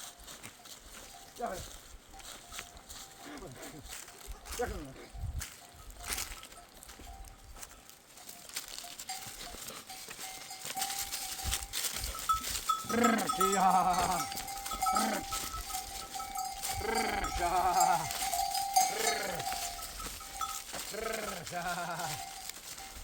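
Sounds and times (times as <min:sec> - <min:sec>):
livestock bell ringing: 0:00.0 - 0:23.0
sheep and goats bleating: 0:01.0 - 0:23.0.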